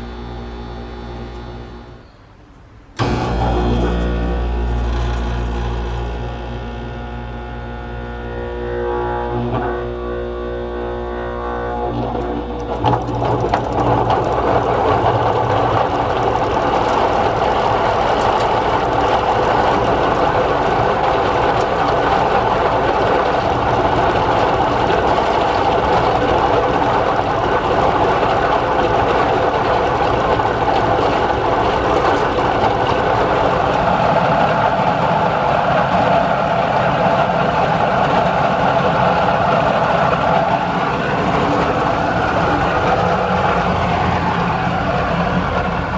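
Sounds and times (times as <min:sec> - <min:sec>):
fan motor rough mechanical noise: 0:00.0 - 0:02.1, 0:02.8 - 0:45.9.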